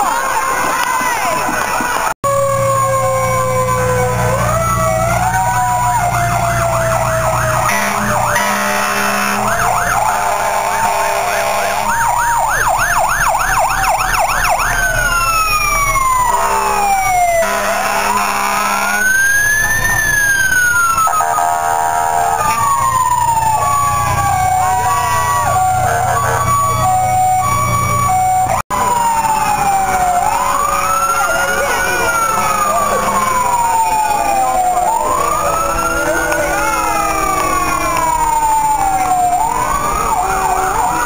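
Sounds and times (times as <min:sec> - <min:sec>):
fire engine sirens: 0:00.0 - 0:41.0
truck engines rumbling: 0:00.0 - 0:41.0.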